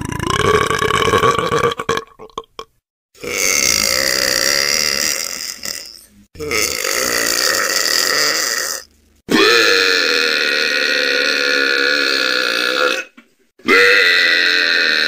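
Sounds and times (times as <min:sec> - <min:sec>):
person belching: 0:00.0 - 0:15.0.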